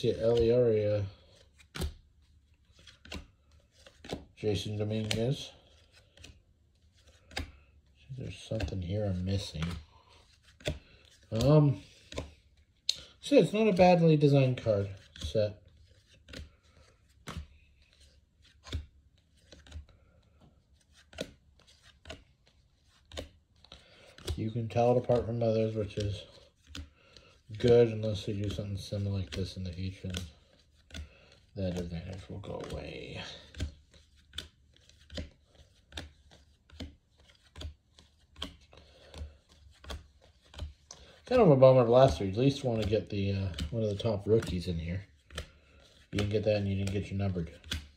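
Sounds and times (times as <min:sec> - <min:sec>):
trading cards tapping and sliding: 0:00.0 - 0:47.9.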